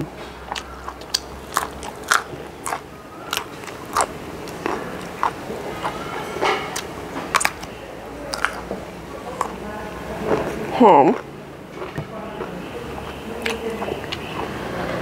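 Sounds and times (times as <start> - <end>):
raw bean crunching being chewed: 0.0 - 15.0.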